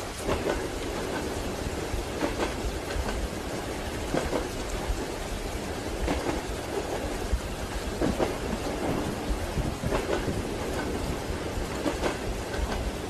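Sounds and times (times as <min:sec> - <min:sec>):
moving train rumble: 0:00.0 - 0:13.0
rain on a train window: 0:00.0 - 0:13.0
train wheels knocking on rail joints: 0:00.1 - 0:05.1, 0:05.9 - 0:13.0.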